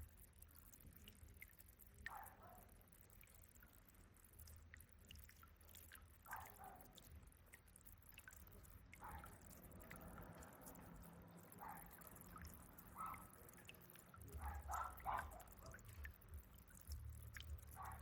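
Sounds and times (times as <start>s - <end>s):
water drips and plops: 0.0s - 18.0s
water fountain burbling: 0.0s - 18.0s.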